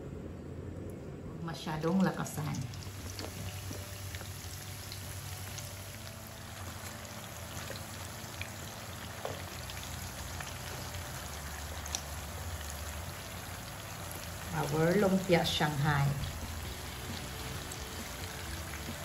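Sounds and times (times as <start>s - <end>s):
frying in hot oil: 1.6s - 19.0s.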